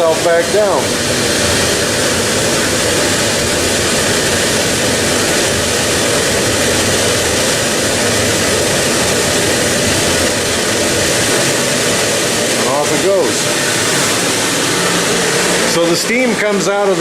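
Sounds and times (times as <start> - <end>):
boiler burner roaring: 0.0 - 17.0.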